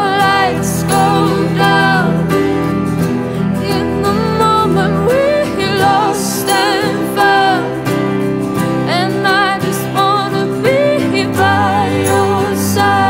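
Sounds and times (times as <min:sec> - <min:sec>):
background song: 0:00.0 - 0:13.0.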